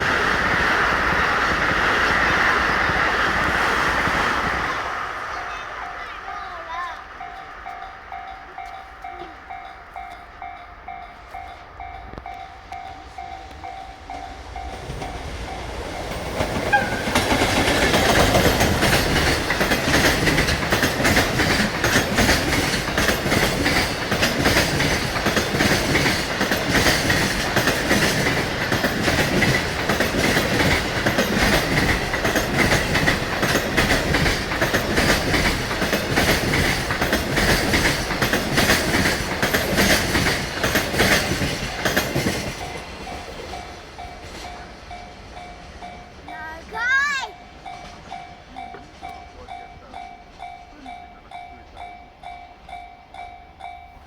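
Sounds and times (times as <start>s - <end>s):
freight train passing: 0.0s - 54.0s
wheels clacking over rail joints: 0.0s - 54.0s.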